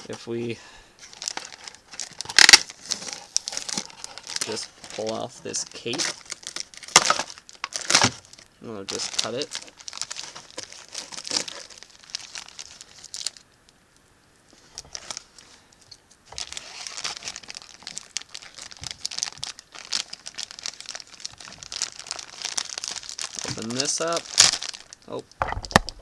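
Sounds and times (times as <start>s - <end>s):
plastic packaging crinkling: 1.0s - 13.5s, 14.6s - 15.5s, 16.2s - 26.0s.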